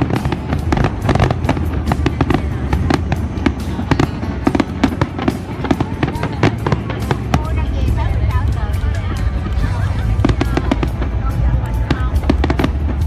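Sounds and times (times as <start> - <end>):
fireworks bangs and crackles: 0.0 - 13.0
loud show music: 0.0 - 13.0.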